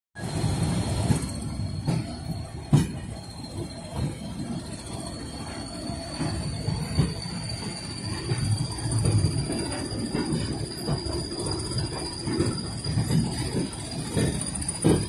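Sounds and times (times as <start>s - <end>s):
freight wagons rumbling on track: 0.2s - 15.0s
high whine of wheel squeal: 0.2s - 15.0s
wheels and couplings clunking: 0.2s - 15.0s.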